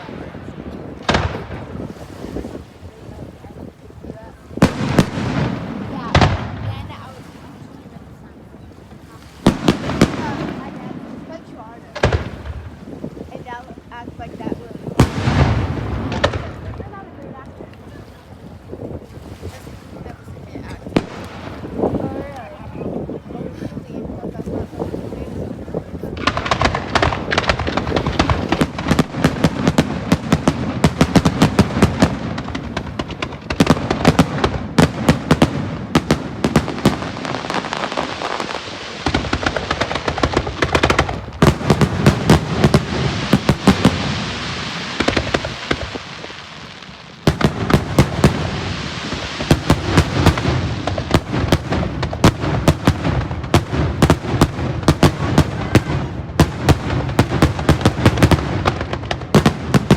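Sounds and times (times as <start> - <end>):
fireworks bursting: 0.0 - 17.8, 20.9 - 23.2, 25.7 - 59.9.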